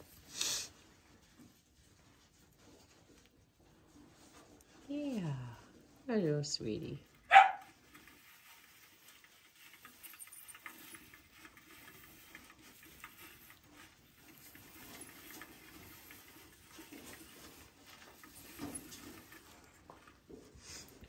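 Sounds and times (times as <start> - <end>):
hedgehogs rustling in wood shavings: 0.0 - 21.0.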